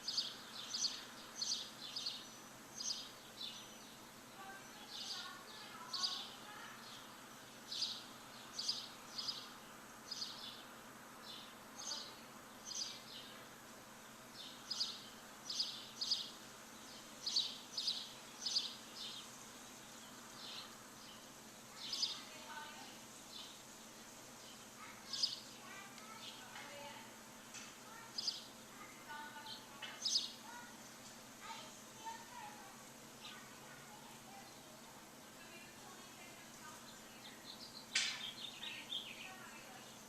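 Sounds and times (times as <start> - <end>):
bird chirping: 0.0 - 13.5, 14.3 - 27.0, 28.0 - 28.5, 29.1 - 40.0
outdoor background hiss: 0.0 - 40.0.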